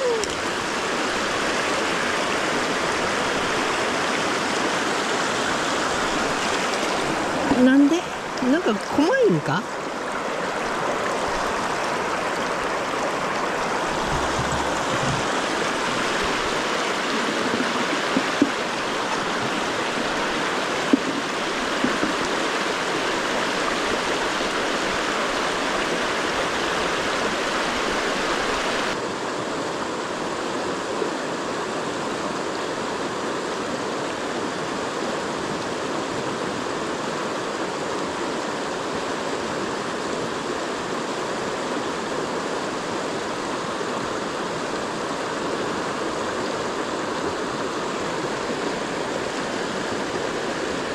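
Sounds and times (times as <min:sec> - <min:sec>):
river current rushing: 0:00.0 - 0:50.9.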